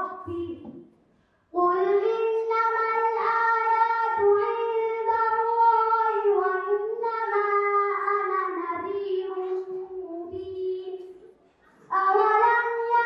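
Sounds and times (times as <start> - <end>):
girl singing: 0.0 - 0.8, 1.5 - 11.3, 11.9 - 13.0.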